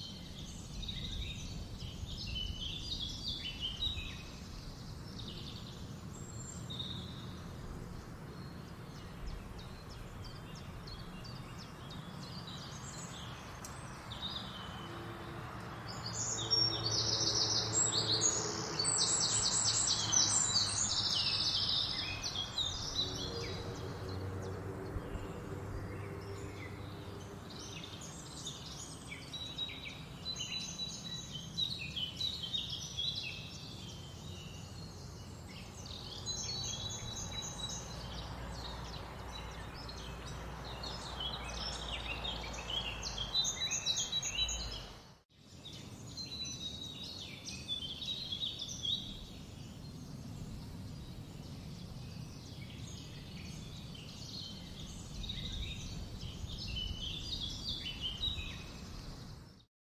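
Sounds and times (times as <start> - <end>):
outdoor background noise: 0.0 - 59.7
wild birds chirping: 0.0 - 59.7.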